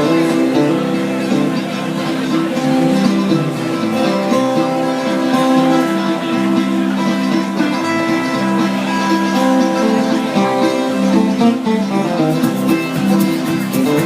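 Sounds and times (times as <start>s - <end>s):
live band playing: 0.0s - 14.0s
plucked acoustic guitar: 0.0s - 14.0s.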